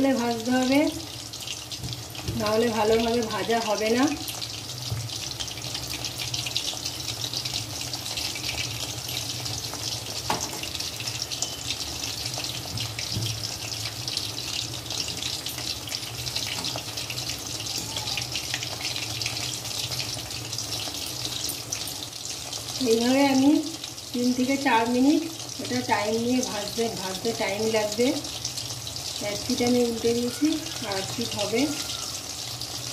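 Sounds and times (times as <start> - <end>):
oil crackling and sizzling: 0.0 - 32.9.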